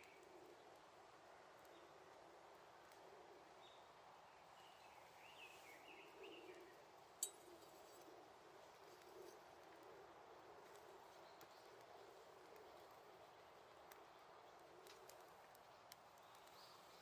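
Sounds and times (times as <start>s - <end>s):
wood fire crackle: 0.0s - 4.5s, 6.6s - 17.0s
steady low hiss: 0.0s - 17.0s.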